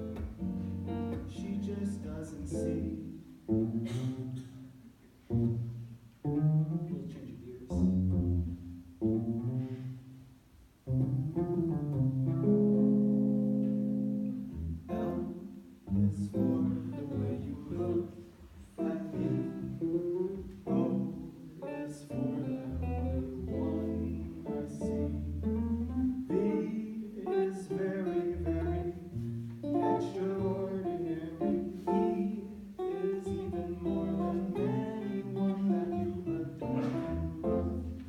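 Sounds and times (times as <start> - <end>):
solo jazz guitar: 0.0 - 38.0.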